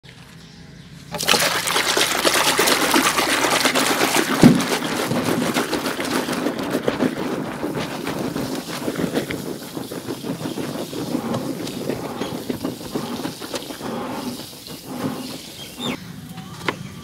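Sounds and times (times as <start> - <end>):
hand splashing water in basin: 1.2 - 15.9
fizzing bubbles: 1.2 - 16.0.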